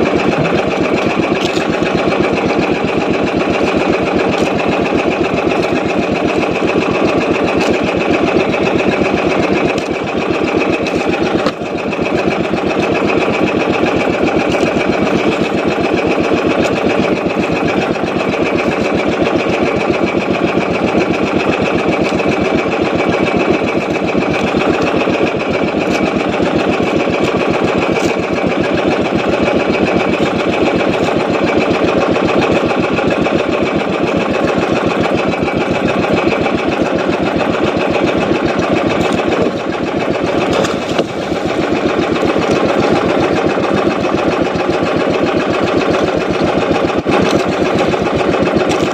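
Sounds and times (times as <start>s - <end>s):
boat engine puttering: 0.0s - 48.9s.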